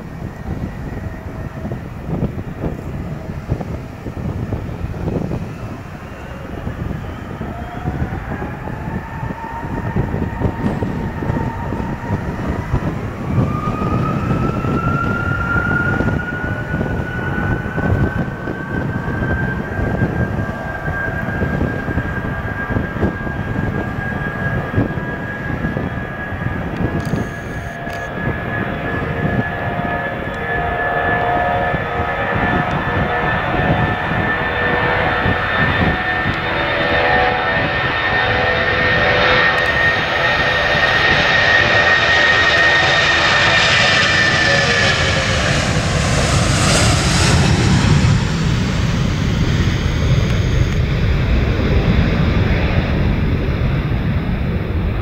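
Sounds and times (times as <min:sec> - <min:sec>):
jet engines spooling up: 0:00.0 - 0:55.0
low rumble: 0:00.0 - 0:55.0.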